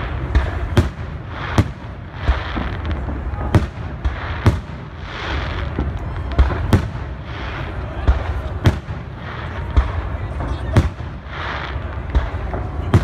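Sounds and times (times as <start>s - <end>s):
continuous rush of noise: 0.0s - 13.0s
fireworks bangs: 0.0s - 13.0s.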